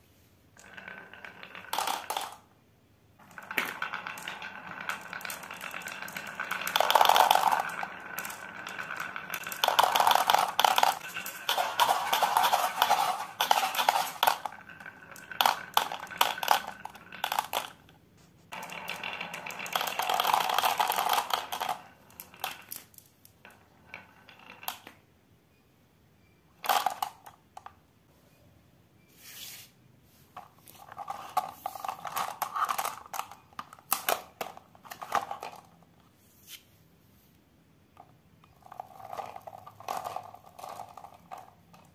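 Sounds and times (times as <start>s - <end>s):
marbles clattering on wood: 0.5s - 2.6s, 3.2s - 25.1s, 26.5s - 27.9s, 30.3s - 36.7s, 37.8s - 41.9s.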